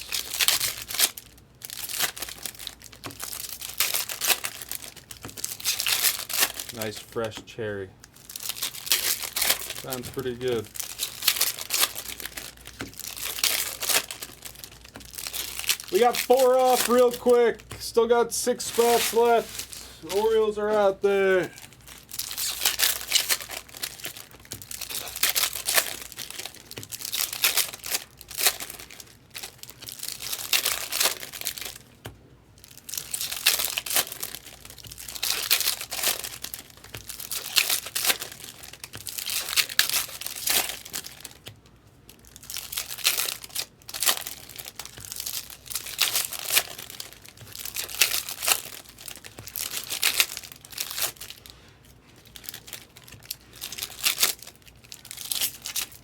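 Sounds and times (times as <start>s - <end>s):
card pack wrappers tearing: 0.0s - 7.3s, 8.2s - 31.9s, 32.6s - 41.5s, 42.1s - 51.5s, 52.2s - 56.0s.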